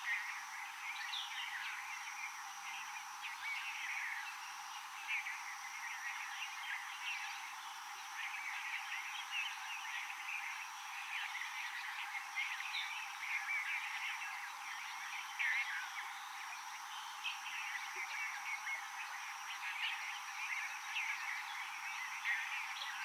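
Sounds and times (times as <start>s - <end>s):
faint steady high tone: 0.0s - 23.0s.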